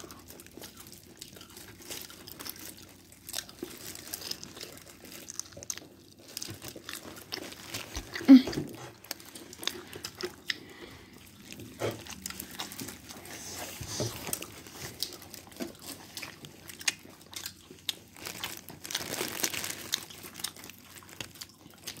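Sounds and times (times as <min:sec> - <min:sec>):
child chewing crunchy food: 0:00.0 - 0:22.0.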